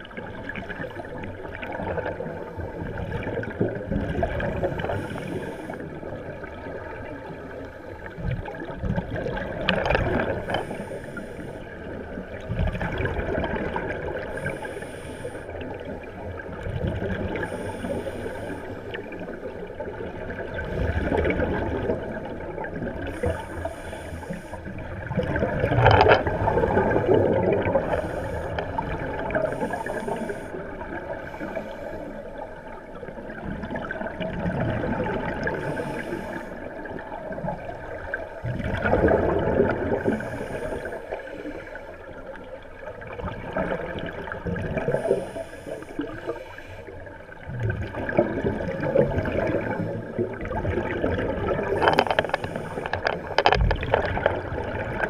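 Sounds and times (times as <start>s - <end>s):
underwater regulator bubbles: 0.0s - 32.0s, 32.9s - 41.1s, 47.4s - 55.0s.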